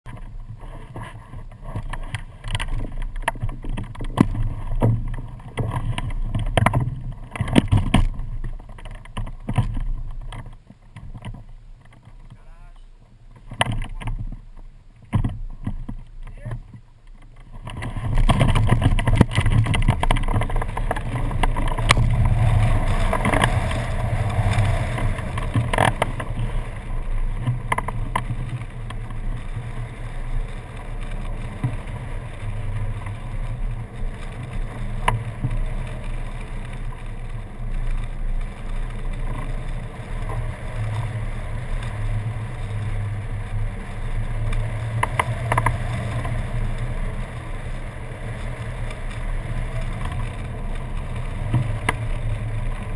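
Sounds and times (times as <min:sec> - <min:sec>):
wind rushing over camera: 0:00.1 - 0:52.9.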